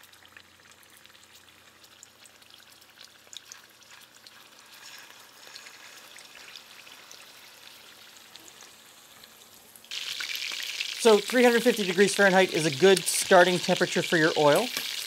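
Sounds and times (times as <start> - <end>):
food sizzling in oil: 0.0 - 15.0
oil popping and crackling: 0.0 - 15.0.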